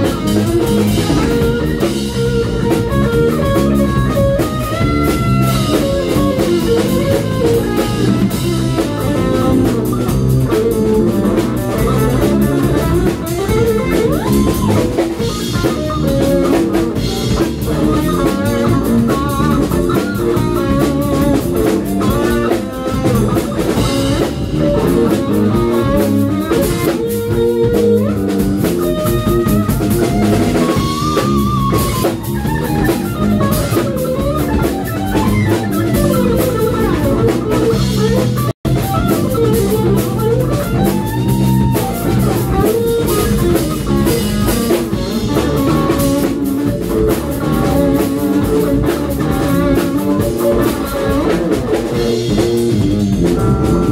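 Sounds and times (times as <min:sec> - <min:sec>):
drum kit: 0:00.0 - 0:53.9
electric bass: 0:00.0 - 0:53.9
electric guitar melodic lines: 0:00.0 - 0:53.9.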